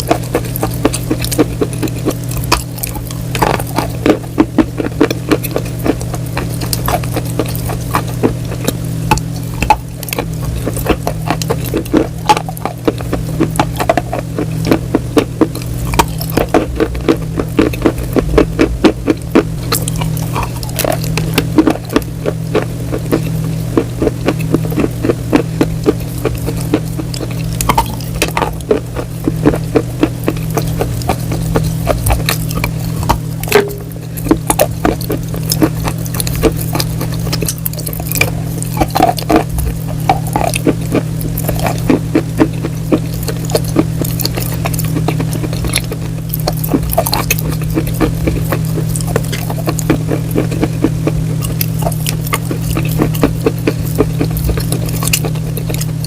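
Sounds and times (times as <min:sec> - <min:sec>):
crunchy food chewing: 0:00.0 - 0:56.0
low hum: 0:00.0 - 0:56.0.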